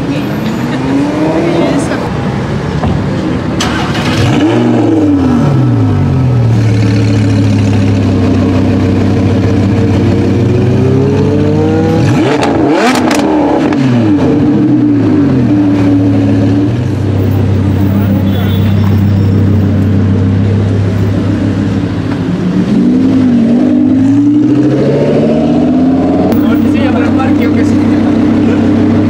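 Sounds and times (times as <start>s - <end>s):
car engine revving and idling: 0.0s - 29.0s.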